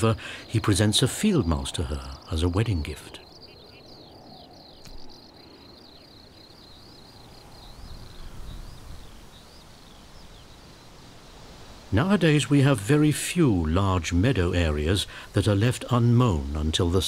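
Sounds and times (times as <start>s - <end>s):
high insect trill: 0.0s - 17.0s
low rush of wind: 0.0s - 17.0s.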